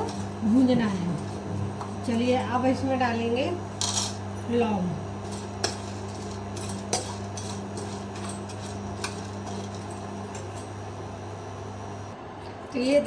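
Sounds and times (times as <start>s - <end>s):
spoon scraping spices in a pan: 0.0s - 2.9s, 3.5s - 12.1s
steady low hum: 0.0s - 12.2s.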